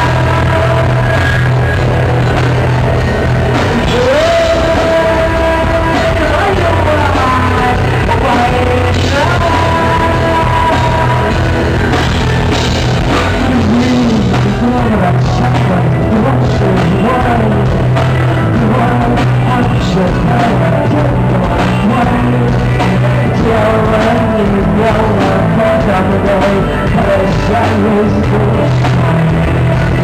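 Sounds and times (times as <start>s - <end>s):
rock band playing live: 0.0s - 30.0s.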